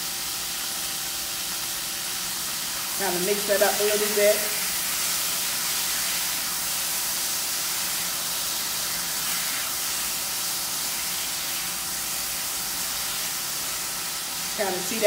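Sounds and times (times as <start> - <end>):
meat sizzling in a frying pan: 0.0 - 15.0
spatula stirring in a pan: 1.6 - 14.7.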